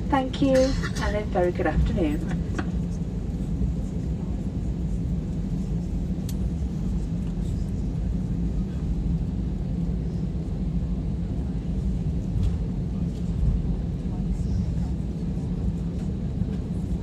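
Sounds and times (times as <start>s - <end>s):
low rumble in aircraft cabin: 0.0s - 17.0s.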